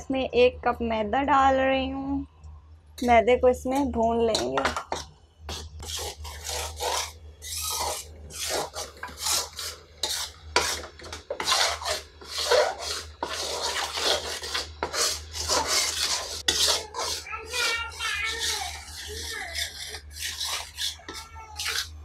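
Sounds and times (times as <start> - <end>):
metal spatula scraping a pan: 4.3 - 22.0.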